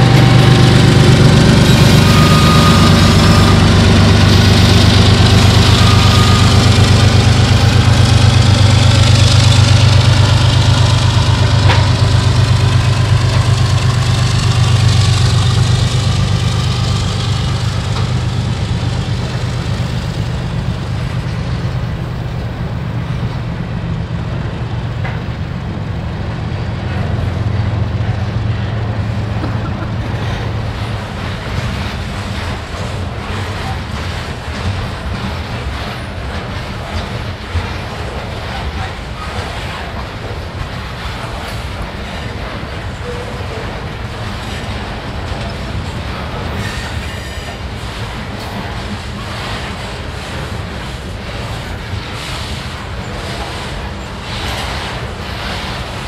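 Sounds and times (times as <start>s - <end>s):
diesel locomotive engine droning: 0.0s - 56.0s
freight cars rolling past: 0.0s - 56.0s.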